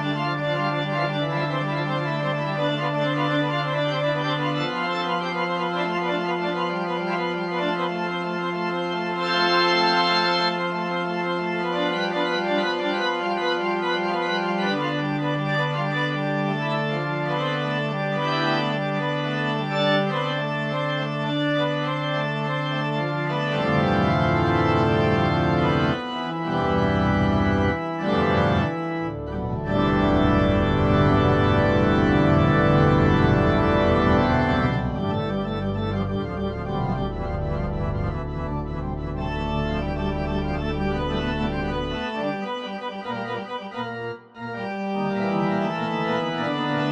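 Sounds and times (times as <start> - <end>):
organ chords: 0.0 - 46.9.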